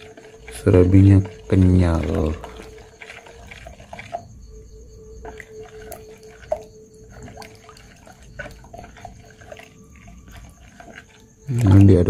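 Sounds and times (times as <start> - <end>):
batter swishing: 0.0 - 12.0.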